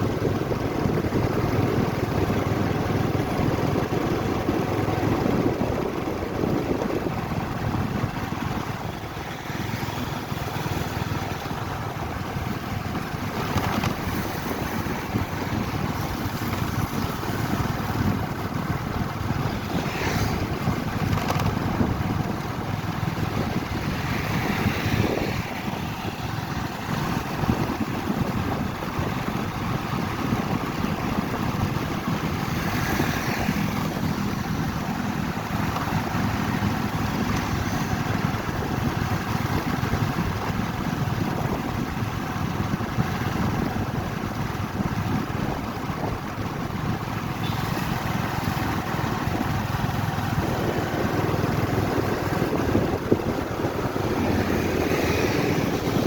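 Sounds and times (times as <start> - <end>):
motorcycle road and wind noise: 0.0 - 56.0
wind buffeting microphone: 0.0 - 56.0.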